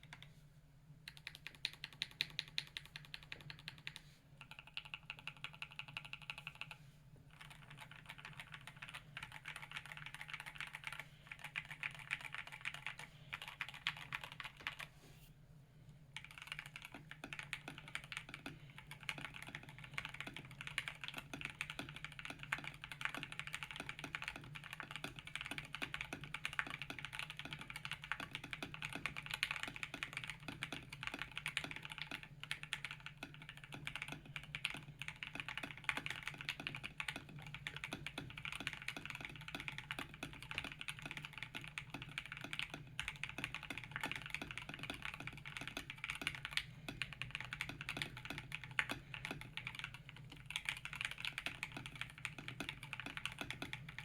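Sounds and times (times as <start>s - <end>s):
mechanical keyboard typing: 1.1s - 14.9s, 16.2s - 54.0s.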